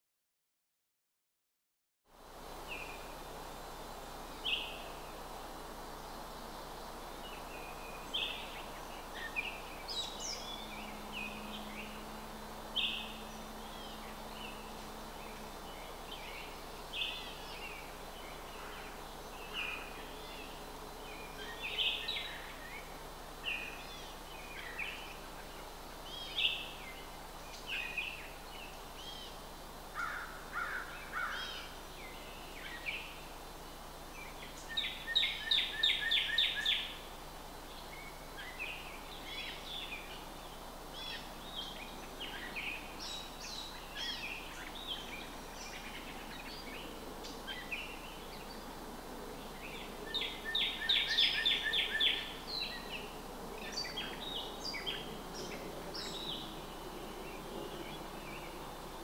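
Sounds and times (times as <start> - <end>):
steady background hiss: 2.1 - 59.0
small birds chirping: 3.9 - 59.0.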